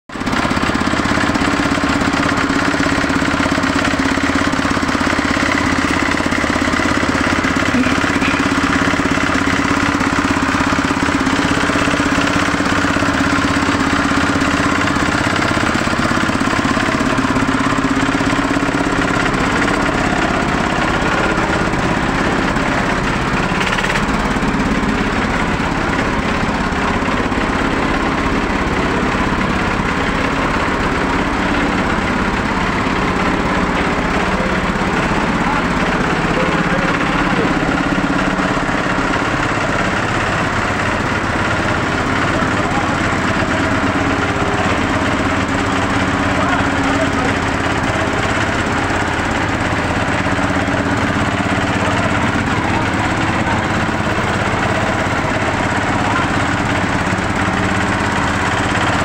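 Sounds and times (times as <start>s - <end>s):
diesel engine running: 0.1s - 59.0s.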